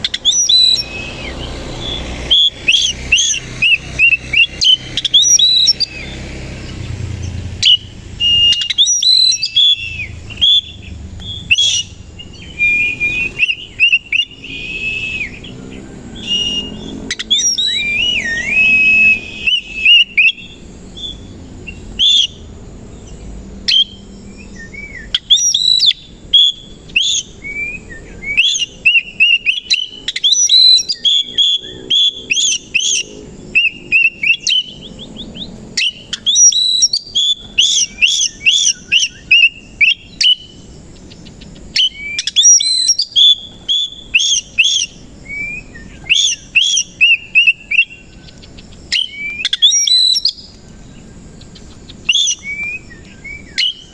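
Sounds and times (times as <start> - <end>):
bird singing whistled phrases: 0.0 - 22.4, 23.0 - 53.9.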